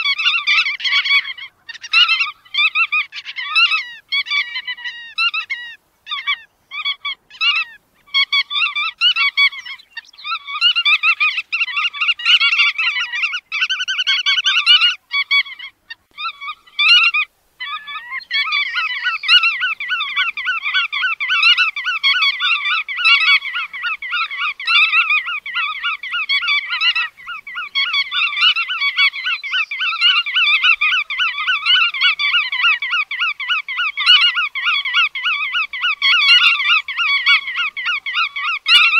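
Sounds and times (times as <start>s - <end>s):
godwit calls: 0.0s - 38.9s.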